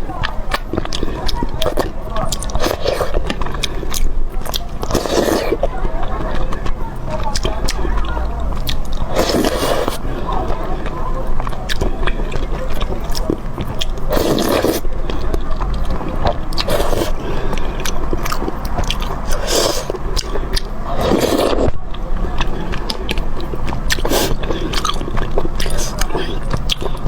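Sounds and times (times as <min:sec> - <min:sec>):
chewing and mouth sounds: 0:00.0 - 0:27.0.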